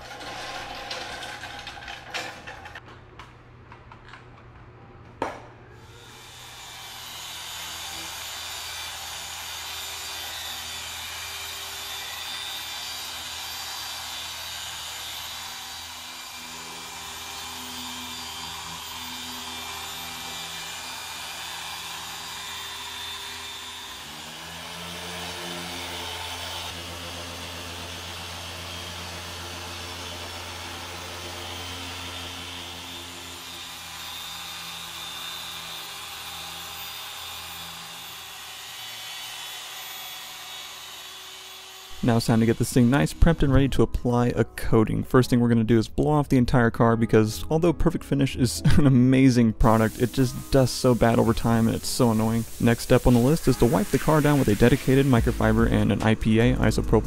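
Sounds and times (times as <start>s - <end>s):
polisher whirring hum: 0.0s - 2.8s, 5.8s - 43.2s, 49.6s - 57.0s.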